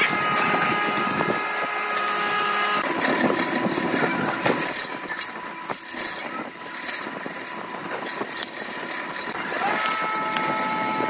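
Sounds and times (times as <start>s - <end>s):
lathe motor whining: 0.0s - 11.0s.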